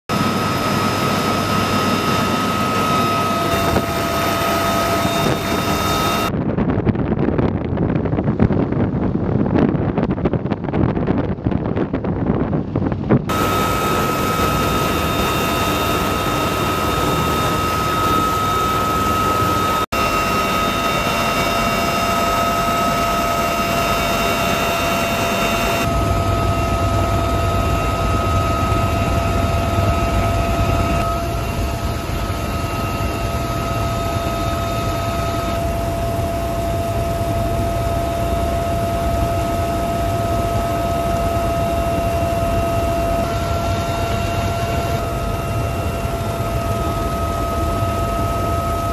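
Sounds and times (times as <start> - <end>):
helicopter rotor drone: 0.1 - 48.9
high turbine whine: 0.1 - 48.9.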